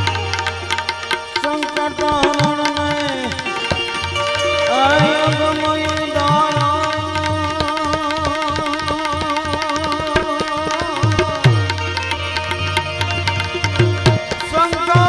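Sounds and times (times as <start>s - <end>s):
harmonium and banjo melody: 0.0s - 15.0s
tabla drums played fast: 0.0s - 15.0s.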